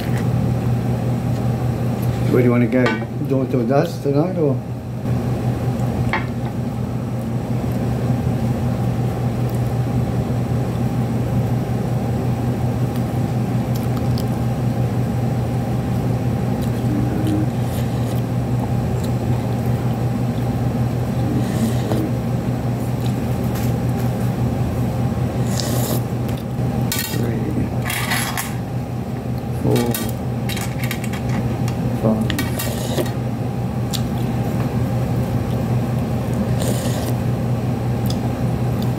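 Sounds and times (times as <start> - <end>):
low motor hum: 0.0 - 38.9.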